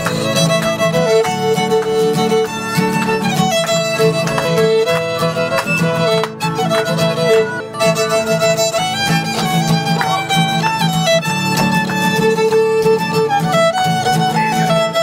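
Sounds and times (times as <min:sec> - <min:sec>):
fiddle playing a tune: 0:00.0 - 0:15.0
strummed acoustic guitar: 0:00.0 - 0:15.0.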